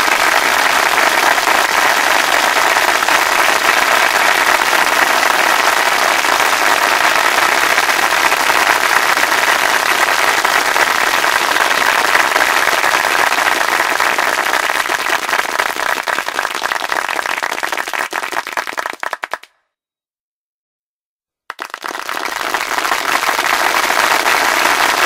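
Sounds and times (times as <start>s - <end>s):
crowd applauding: 0.0s - 19.5s, 21.5s - 25.0s.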